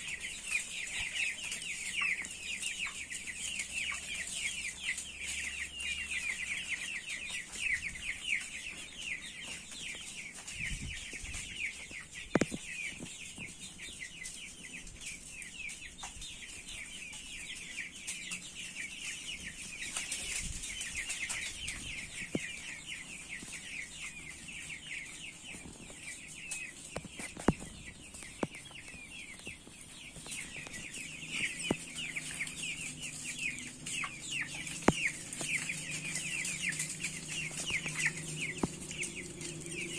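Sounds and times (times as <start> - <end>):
chicks peeping and cheeping: 0.0 - 39.9.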